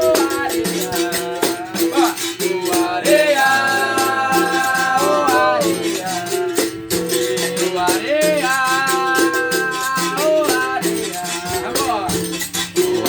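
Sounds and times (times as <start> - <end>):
berimbau playing: 0.0 - 13.0
shaker rattling: 0.0 - 13.0.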